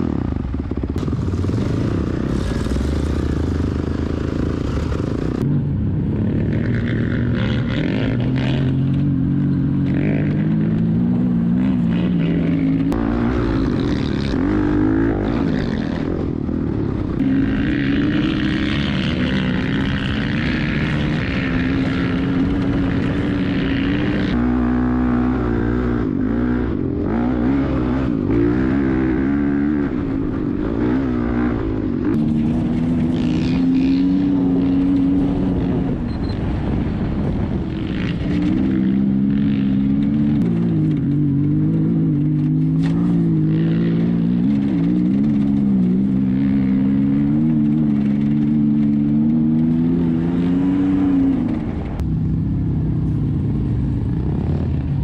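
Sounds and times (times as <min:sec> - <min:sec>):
dirt bike engine revving: 0:00.0 - 0:05.5, 0:06.1 - 0:36.7, 0:37.6 - 0:52.0.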